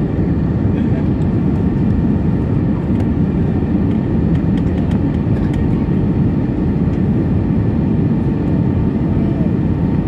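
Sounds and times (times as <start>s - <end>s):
jet engine cabin rumble: 0.0s - 10.0s.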